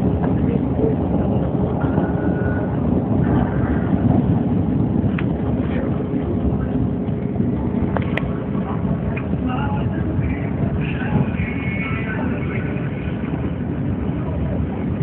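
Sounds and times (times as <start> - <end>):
rumble of train wheels: 0.0 - 15.0.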